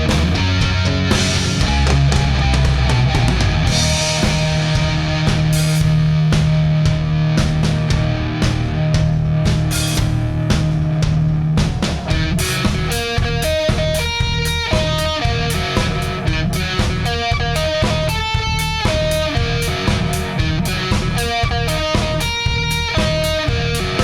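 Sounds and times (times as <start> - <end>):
drum kit: 0.0 - 24.0
electric guitar melody: 0.0 - 24.0.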